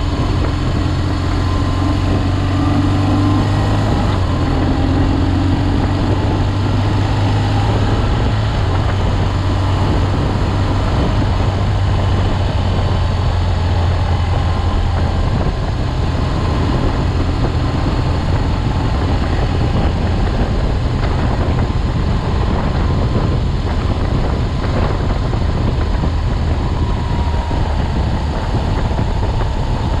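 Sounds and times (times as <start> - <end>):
motorcycle engine cruising: 0.0 - 30.0
wind rush over microphone: 0.0 - 30.0.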